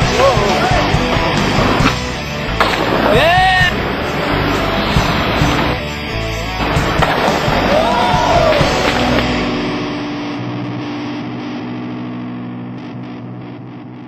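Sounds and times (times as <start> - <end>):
distorted electric guitar rock music: 0.0 - 14.0.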